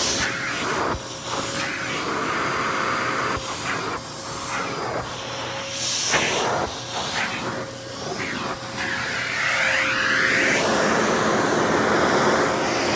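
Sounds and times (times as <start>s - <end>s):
vacuum cleaner running: 0.0s - 12.9s.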